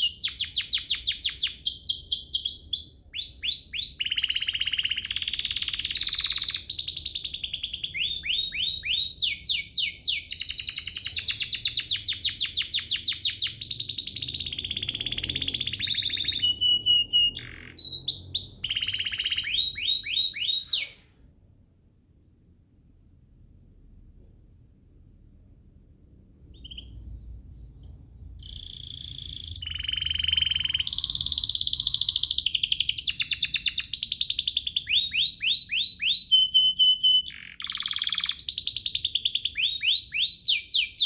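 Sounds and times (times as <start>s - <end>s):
canary singing trills: 0.0s - 21.0s, 26.4s - 41.0s.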